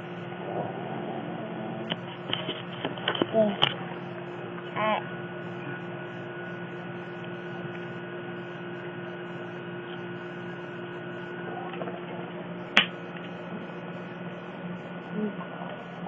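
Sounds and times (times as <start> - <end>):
electrical hum: 0.0 - 16.0
faint high whine: 0.0 - 16.0.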